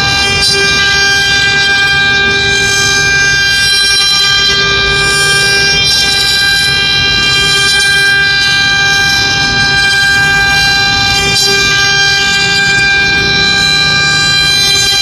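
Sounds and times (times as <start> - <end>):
router spindle high whine: 0.0 - 15.0.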